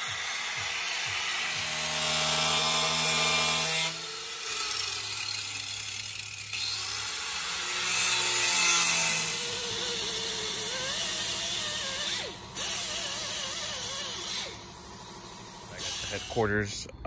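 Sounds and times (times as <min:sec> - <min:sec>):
grinder whining against metal: 0:00.0 - 0:17.0.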